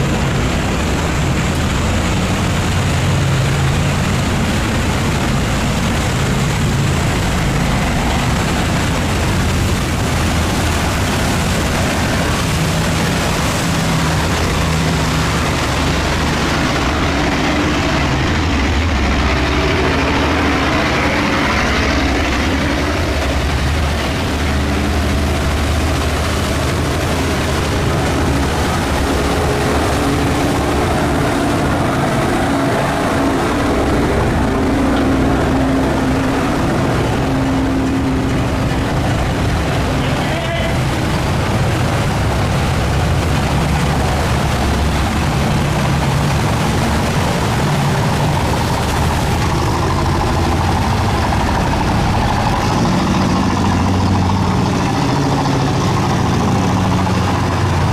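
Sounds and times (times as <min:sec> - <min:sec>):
boat engines running: 0:00.0 - 0:57.9.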